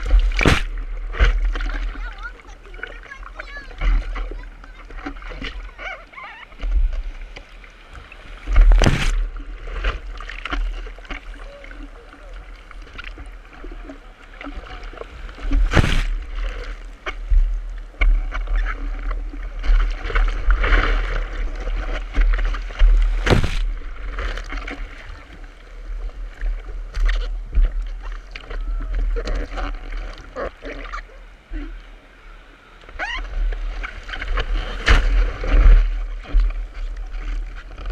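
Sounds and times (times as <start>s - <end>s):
water rushing and splashing: 0.0s - 37.9s.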